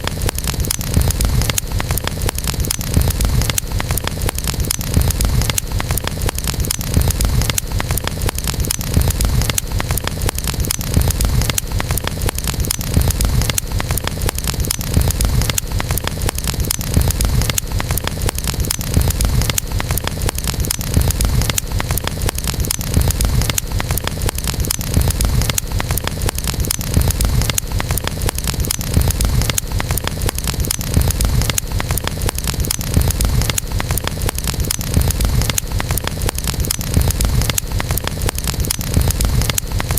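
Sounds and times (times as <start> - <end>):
crackle of popping wood: 0.0 - 39.9
low rumble of flames: 0.0 - 39.9.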